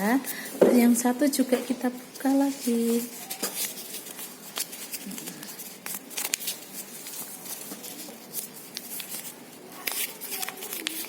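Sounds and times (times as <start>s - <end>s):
paper rustling and crinkling: 0.0s - 11.0s
sharp paper crackles: 1.7s - 11.0s.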